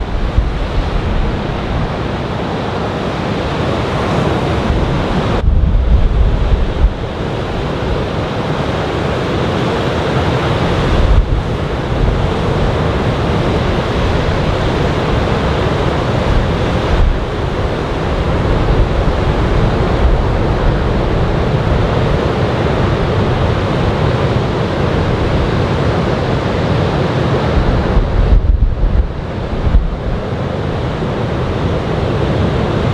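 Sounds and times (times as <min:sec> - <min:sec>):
surf breaking on sandy beach: 0:00.0 - 0:32.9
wind buffeting microphone: 0:00.0 - 0:32.9.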